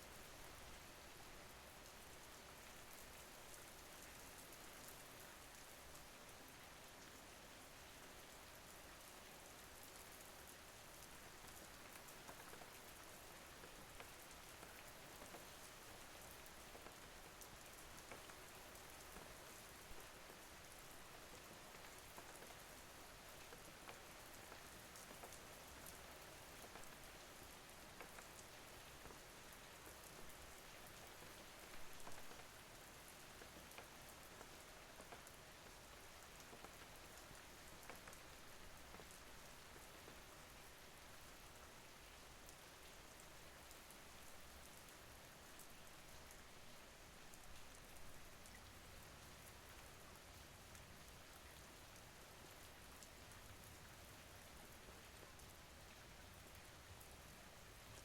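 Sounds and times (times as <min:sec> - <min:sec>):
faint rain falling: 0:00.0 - 0:58.0.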